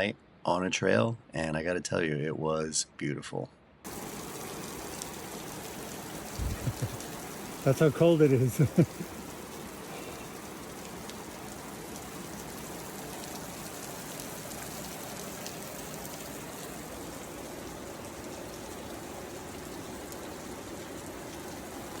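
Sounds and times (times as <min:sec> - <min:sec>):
rushing water: 0:03.8 - 0:22.0.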